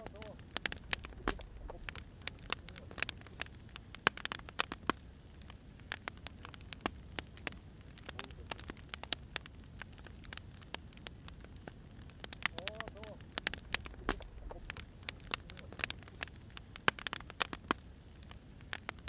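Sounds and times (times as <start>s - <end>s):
firewood popping and snapping: 0.0s - 19.0s
flames rumbling: 0.0s - 19.0s.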